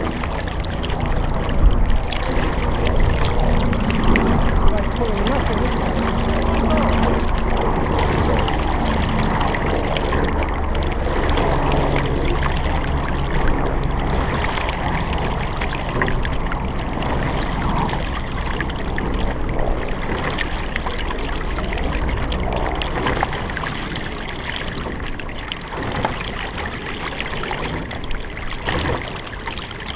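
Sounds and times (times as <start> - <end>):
low rumble: 0.0 - 29.4
loud water splashes: 0.0 - 29.9
water rushing along boat hull: 0.0 - 29.9.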